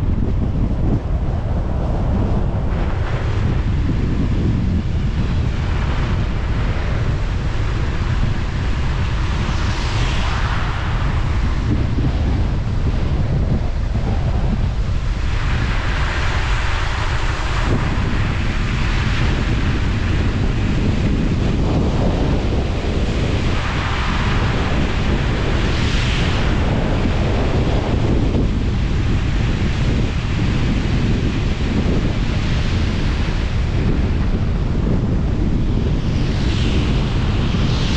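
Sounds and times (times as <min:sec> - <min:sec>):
loud rushing noise with rumble: 0:00.0 - 0:37.9.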